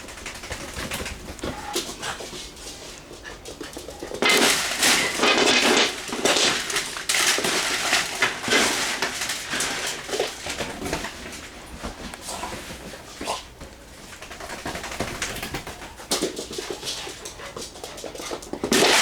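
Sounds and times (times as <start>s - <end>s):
dog scrabbling and rustling: 0.0s - 19.0s.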